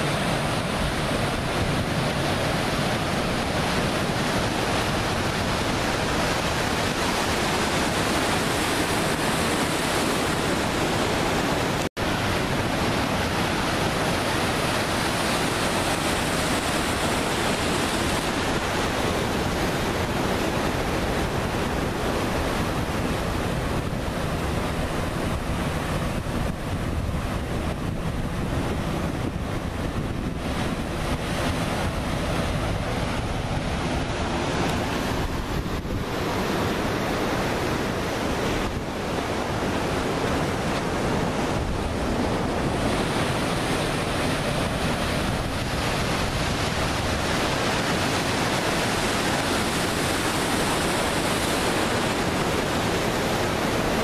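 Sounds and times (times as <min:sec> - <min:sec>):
ocean surf washing: 0:00.0 - 0:54.0
wind on microphone: 0:00.0 - 0:54.0.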